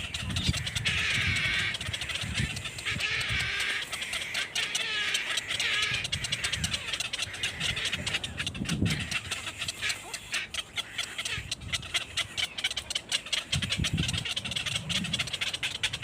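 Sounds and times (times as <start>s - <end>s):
young birds chirping: 0.0s - 16.0s.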